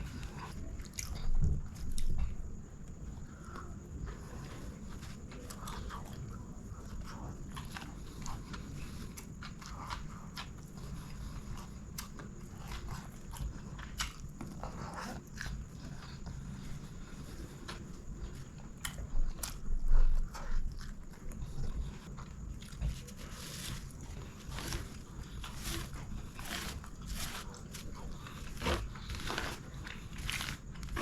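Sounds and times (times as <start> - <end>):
chewing and biting food: 0.0 - 31.0.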